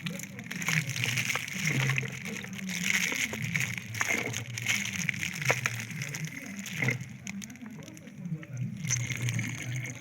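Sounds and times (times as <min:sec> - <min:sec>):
liquid sloshing and trickling: 0:00.0 - 0:10.0.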